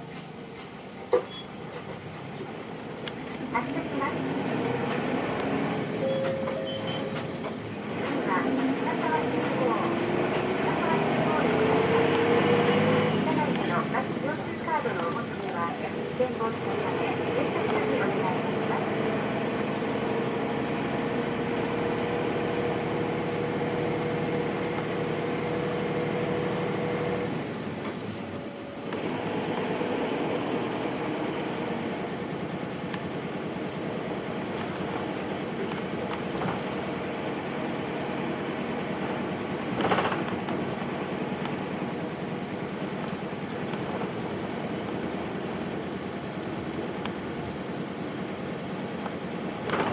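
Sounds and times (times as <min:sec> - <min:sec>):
bus diesel engine whine: 0:00.0 - 0:49.9.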